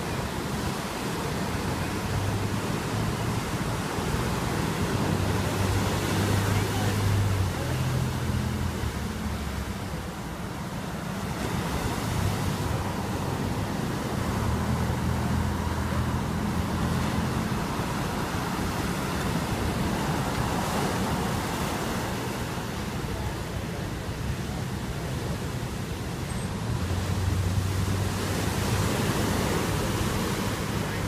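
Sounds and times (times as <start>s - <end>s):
waves breaking on a beach: 0.0s - 31.0s.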